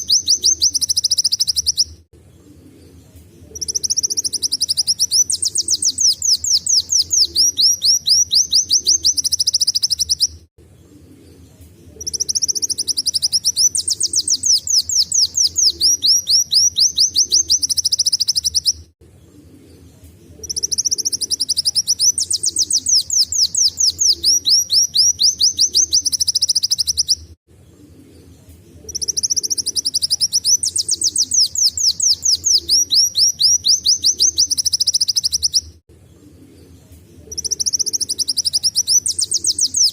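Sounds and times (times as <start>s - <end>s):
sunbird singing trills: 0.0s - 2.0s, 2.8s - 10.4s, 11.9s - 18.8s, 19.6s - 27.2s, 28.1s - 35.8s, 36.4s - 39.9s.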